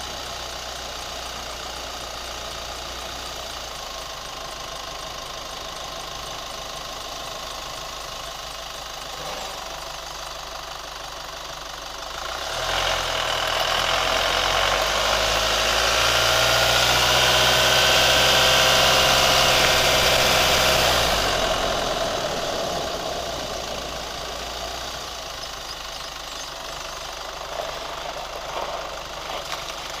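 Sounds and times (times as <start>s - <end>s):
pickup engine idling: 0.0s - 15.7s, 18.2s - 30.0s.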